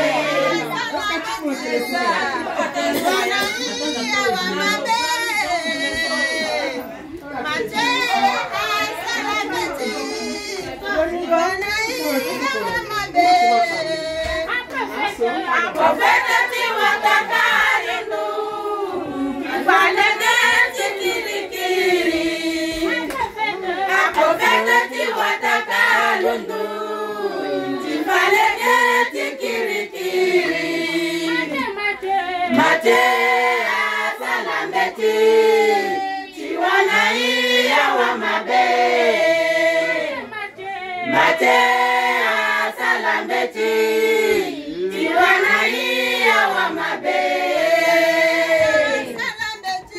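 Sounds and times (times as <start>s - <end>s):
women singing unaccompanied: 0.0s - 49.9s.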